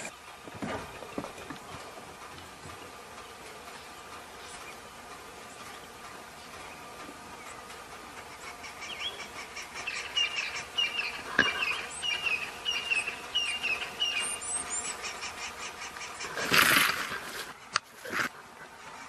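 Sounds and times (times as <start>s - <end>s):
birds chirping: 0.0s - 19.0s
faint outdoor background: 0.0s - 19.0s.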